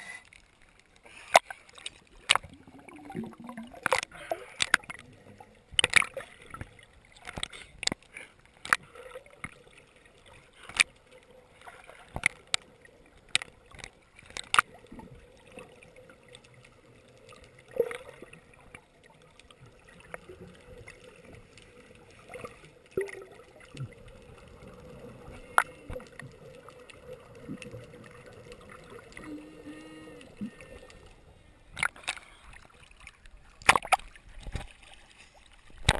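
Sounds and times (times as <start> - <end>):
faint steady hum: 0.0 - 33.6
sharp underwater clicks and pops: 0.0 - 35.0, 35.6 - 35.9
gurgling water and bubbles: 0.0 - 35.9.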